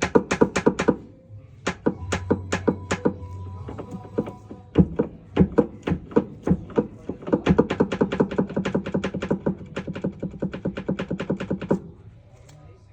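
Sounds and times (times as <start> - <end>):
washing machine knocking: 0.0 - 1.0, 1.7 - 11.8.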